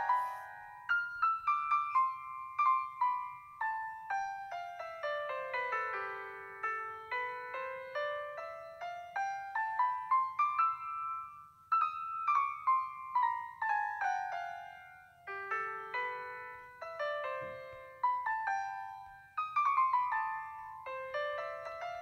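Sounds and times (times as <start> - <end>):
solo piano melody: 0.0 - 22.0.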